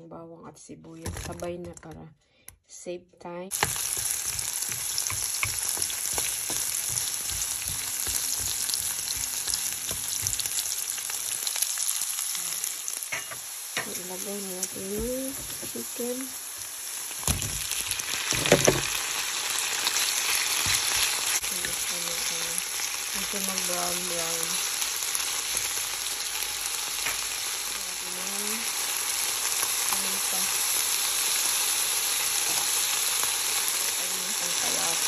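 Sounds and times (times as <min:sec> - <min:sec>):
chicken sizzling in frying pan: 0:03.5 - 0:35.0.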